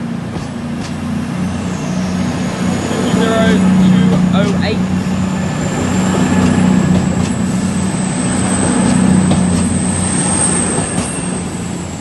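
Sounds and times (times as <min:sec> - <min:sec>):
diesel train engines droning: 0:00.0 - 0:12.0
high whine: 0:00.0 - 0:12.0.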